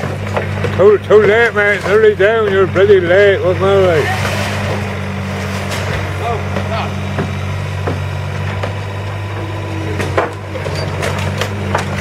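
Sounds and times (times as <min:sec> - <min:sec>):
diesel engine running: 0:00.0 - 0:12.0
wood cracking and splintering: 0:00.0 - 0:12.0.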